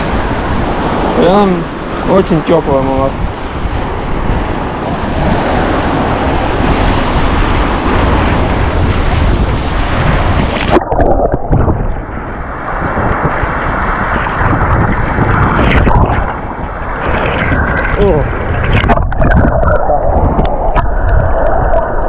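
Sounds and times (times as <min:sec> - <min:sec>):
sea surf breaking: 0:00.0 - 0:22.0
wind buffeting microphone: 0:00.0 - 0:22.0.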